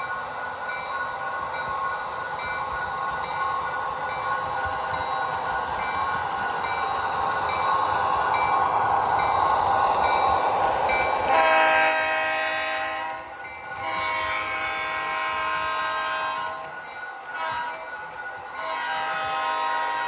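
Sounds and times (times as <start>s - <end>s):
model diesel locomotive running sounds: 0.0s - 20.0s.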